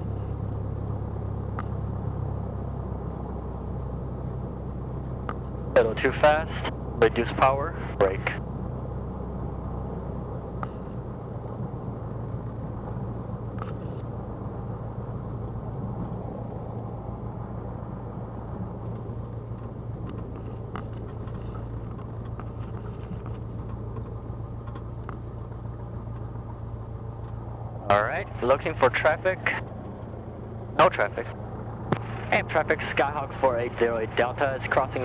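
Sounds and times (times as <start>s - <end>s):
airplane piston engine droning: 0.0s - 35.0s.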